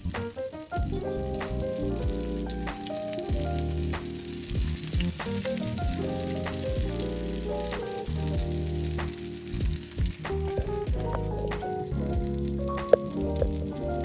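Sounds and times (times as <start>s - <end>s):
background music: 0.0s - 14.0s
meat sizzling and spitting: 0.0s - 14.0s.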